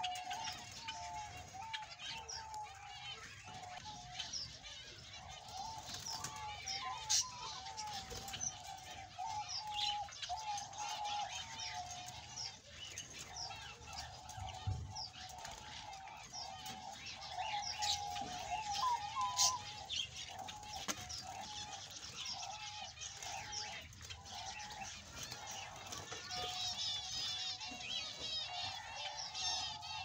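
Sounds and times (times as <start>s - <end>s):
budgerigars chirping: 0.0s - 30.0s
budgerigars warbling: 0.0s - 30.0s.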